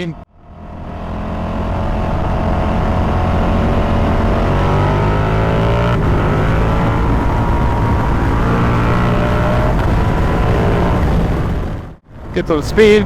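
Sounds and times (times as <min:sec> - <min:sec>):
motorcycle engine revving: 0:00.0 - 0:12.0
wind and road rush: 0:00.0 - 0:13.0.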